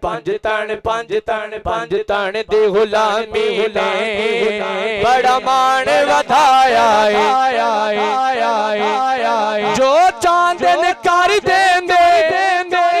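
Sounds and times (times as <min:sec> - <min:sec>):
man singing devotional verse: 0:00.0 - 0:13.0.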